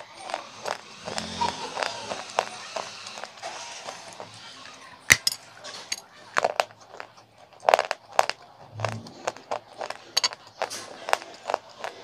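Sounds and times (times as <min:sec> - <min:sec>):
clay crunching when chewed: 0:00.0 - 0:04.3, 0:06.3 - 0:12.0.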